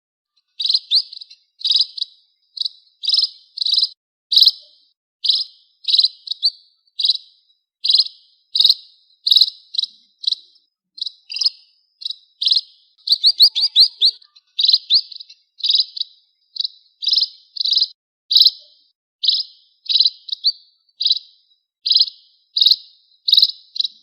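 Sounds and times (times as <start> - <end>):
small bird chirping: 0.3 - 24.0.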